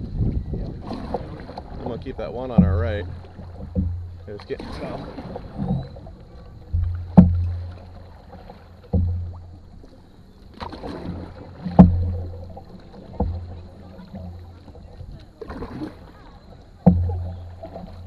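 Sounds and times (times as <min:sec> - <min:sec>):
paddle knocking on canoe hull: 0:00.0 - 0:18.0.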